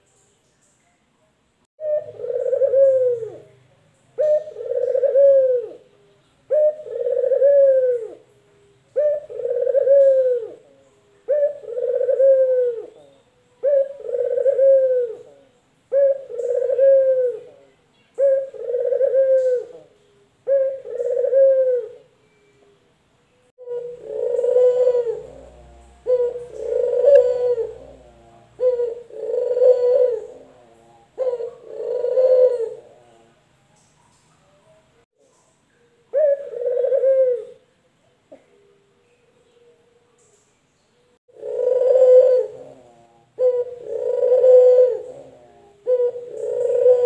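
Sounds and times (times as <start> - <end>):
dove cooing: 1.8 - 3.6, 4.2 - 22.4, 23.6 - 34.1, 35.7 - 37.6, 41.3 - 47.0.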